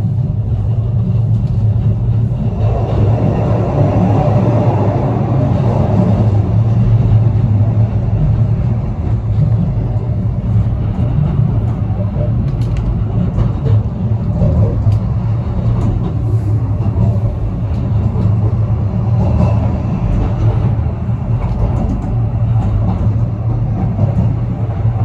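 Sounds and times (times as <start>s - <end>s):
vehicle rumbling in motion: 0.0s - 25.0s.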